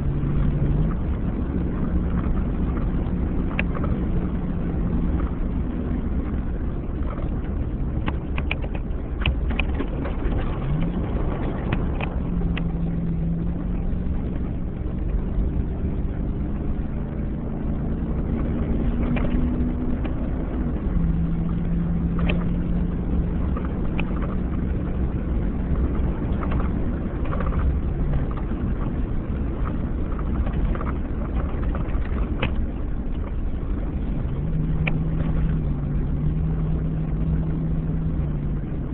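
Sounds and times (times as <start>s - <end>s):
gravel clicks: 0.0s - 38.9s
road rumble: 0.0s - 38.9s
truck engine drone: 0.0s - 38.9s.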